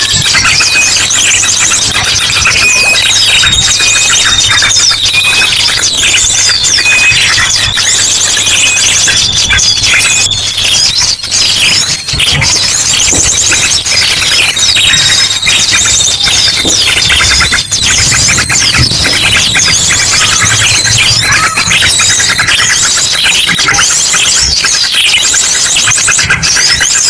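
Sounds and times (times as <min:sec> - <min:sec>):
drongo calls: 0:00.0 - 0:27.0
small birds calling and chattering: 0:00.0 - 0:27.0
steady high whistle: 0:00.3 - 0:24.6.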